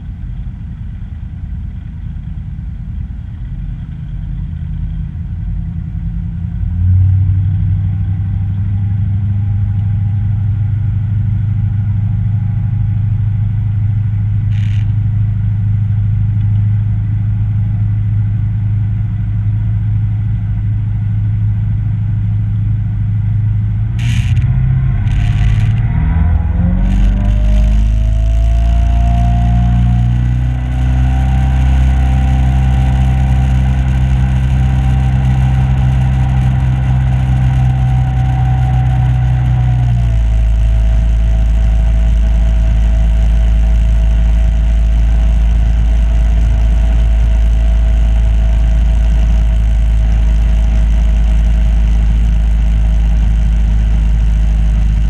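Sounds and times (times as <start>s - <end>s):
boat motor droning: 3.7s - 16.4s, 19.4s - 55.0s.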